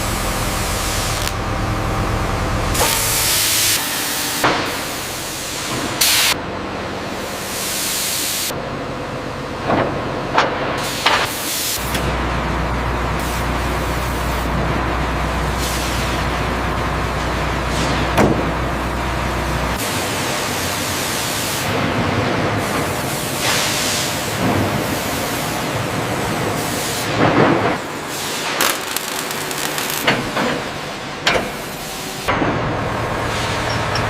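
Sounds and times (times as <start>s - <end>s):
machine hum and hiss: 0.0s - 34.0s.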